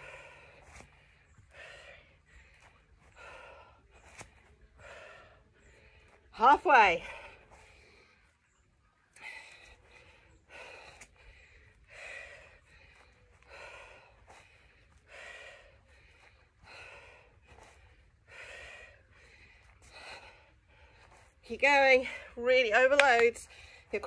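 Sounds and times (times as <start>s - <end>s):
woman breathing hard: 0.0s - 6.3s, 6.9s - 8.4s, 9.1s - 21.4s.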